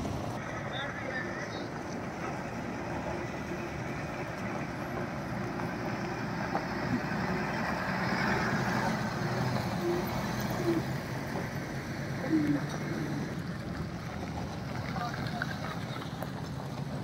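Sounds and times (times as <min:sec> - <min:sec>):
diesel truck engine rumble: 0:00.0 - 0:17.0
tyres on gravel: 0:00.0 - 0:17.0.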